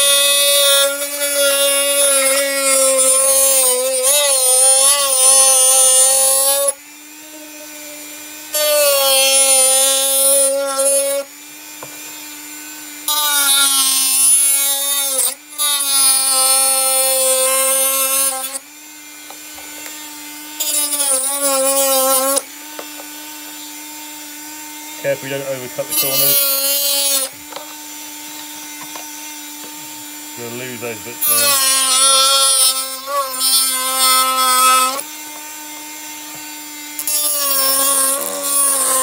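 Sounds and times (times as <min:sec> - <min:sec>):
rotary tool cutting plastic: 0:00.0 - 0:39.0
rotary tool motor whine: 0:00.0 - 0:39.0.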